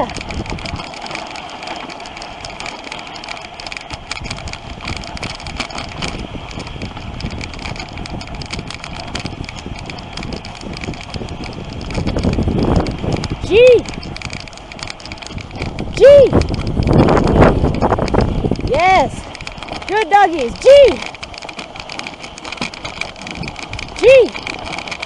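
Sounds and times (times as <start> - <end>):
sled frame rattling: 0.0 - 25.0
sled runners hissing on snow: 0.0 - 25.0.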